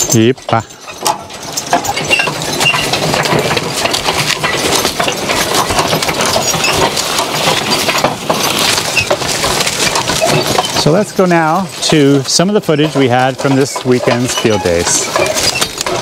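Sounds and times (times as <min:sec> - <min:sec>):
chains and iron plow parts clinking: 0:00.0 - 0:16.0.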